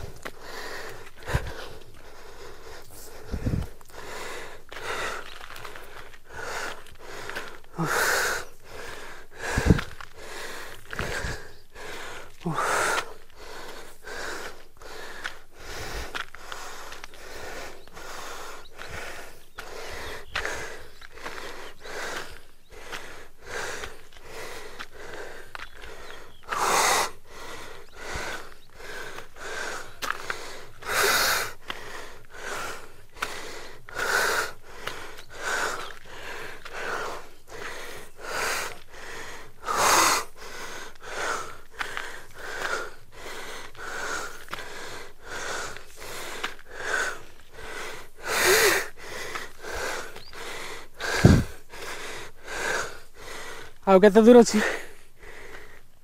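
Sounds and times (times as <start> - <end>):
harsh gasps: 0.0 - 56.0
person breathing hard: 0.0 - 56.0.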